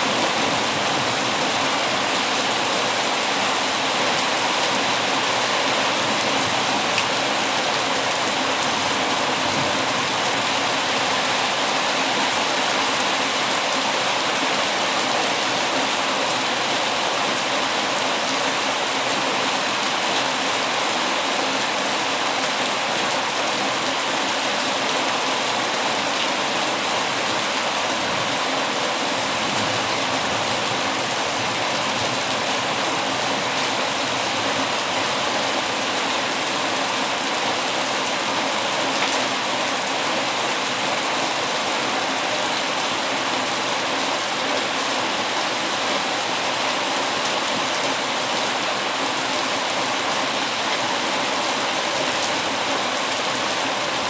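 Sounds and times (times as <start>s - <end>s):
heavy rain hitting windows: 0.0s - 54.0s.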